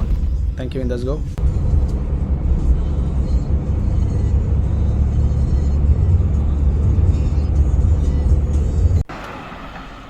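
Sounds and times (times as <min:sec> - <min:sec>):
car road rumble: 0:00.0 - 0:10.0.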